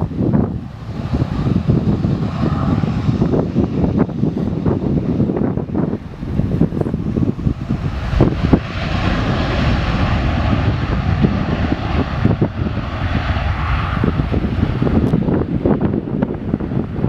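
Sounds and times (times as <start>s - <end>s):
passing aircraft engine: 0.0s - 17.0s
wind buffeting microphone: 0.0s - 17.0s.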